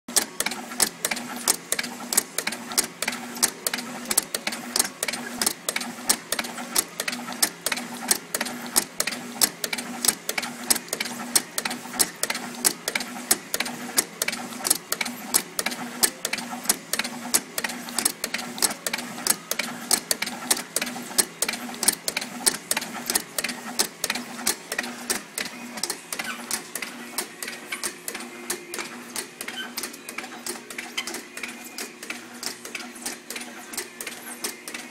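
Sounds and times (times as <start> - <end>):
sharp machine clicks clattering: 0.1 - 34.9.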